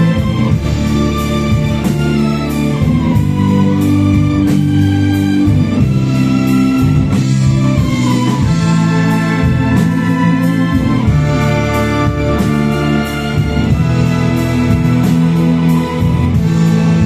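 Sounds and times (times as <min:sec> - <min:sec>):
orchestra strings bowing chords: 0:00.0 - 0:17.0.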